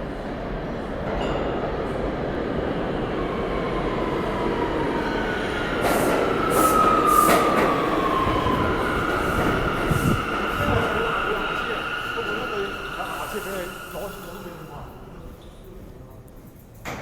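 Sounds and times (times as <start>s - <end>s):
subway train rumble and whine: 0.0s - 17.0s.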